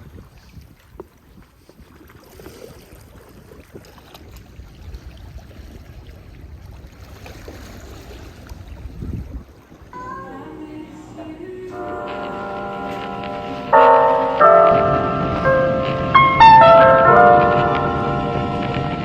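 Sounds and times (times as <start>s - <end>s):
wind buffeting microphone: 0.0s - 10.0s, 12.3s - 19.0s.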